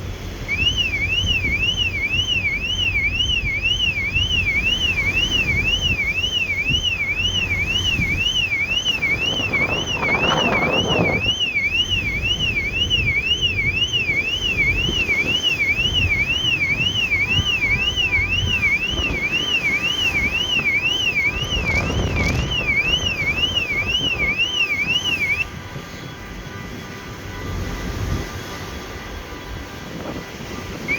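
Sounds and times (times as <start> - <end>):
electronic alarm siren warbling: 0.5 - 25.5.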